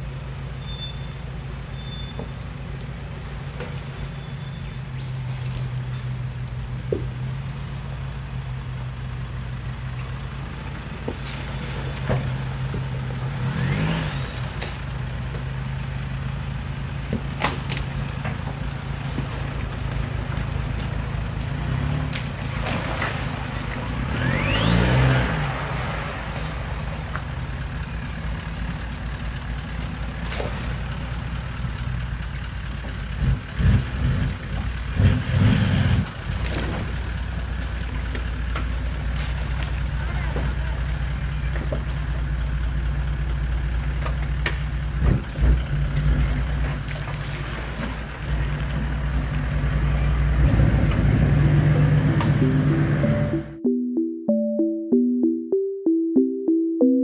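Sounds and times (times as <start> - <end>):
vehicle engine running: 0.0 - 53.6.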